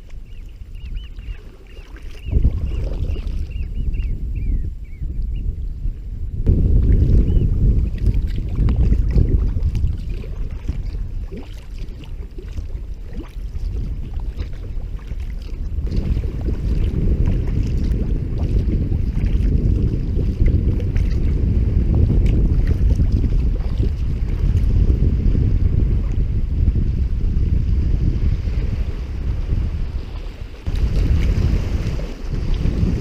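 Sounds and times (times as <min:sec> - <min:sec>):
water splashing from kayak: 0:00.0 - 0:04.1, 0:06.4 - 0:33.0
wind rumbling on microphone: 0:00.0 - 0:33.0.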